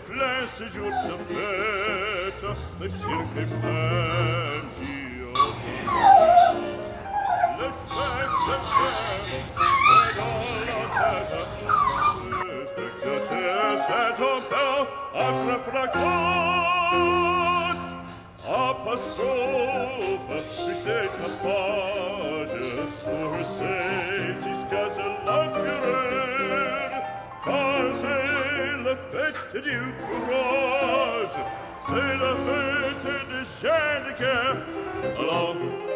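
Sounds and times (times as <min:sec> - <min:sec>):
operatic singing with orchestra: 0:00.0 - 0:35.9.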